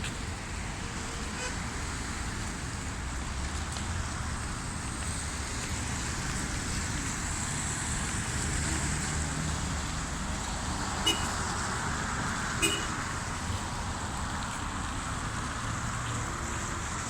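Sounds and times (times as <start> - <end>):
traffic on wet streets: 0.0 - 17.0
rain hiss: 0.1 - 17.0.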